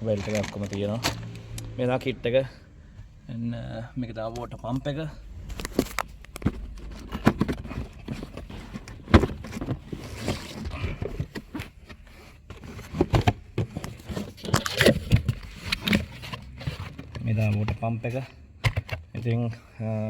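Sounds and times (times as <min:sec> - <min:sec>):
engine parts clicking and knocking: 0:00.0 - 0:19.6.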